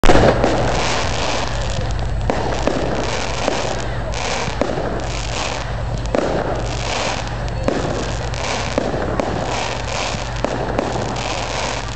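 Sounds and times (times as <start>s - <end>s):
fireworks crackling: 0.0s - 11.9s
low rumble: 0.0s - 11.9s
sharp cracks: 0.0s - 11.9s.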